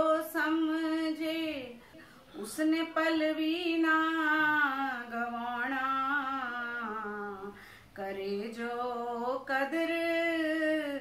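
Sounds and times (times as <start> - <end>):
woman singing unaccompanied: 0.0 - 11.0.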